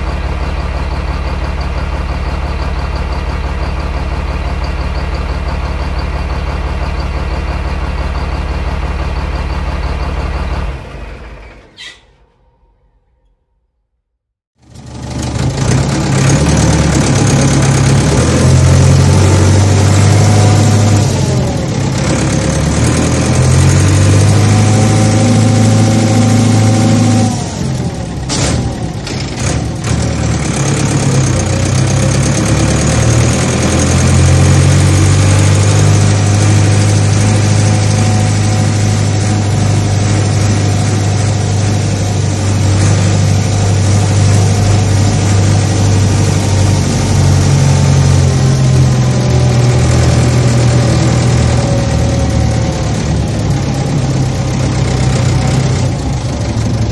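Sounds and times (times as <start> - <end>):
farm machinery engines humming: 0.0 - 12.4, 14.6 - 56.9.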